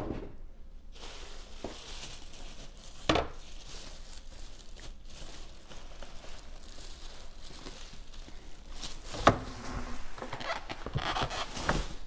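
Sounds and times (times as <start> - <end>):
packaging rustling in cardboard box: 0.9 - 12.0.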